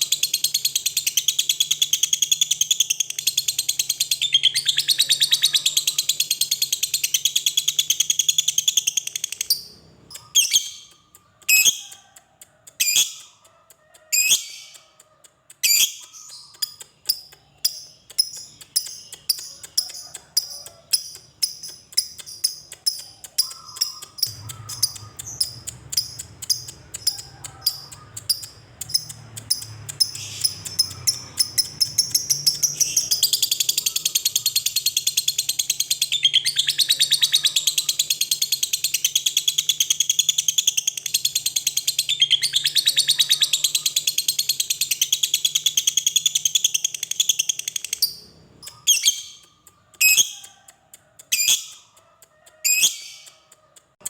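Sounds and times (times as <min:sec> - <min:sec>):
lovebird chirping and trilling: 0:00.0 - 0:13.4, 0:14.1 - 0:15.0, 0:15.6 - 0:52.0, 0:52.6 - 0:53.5.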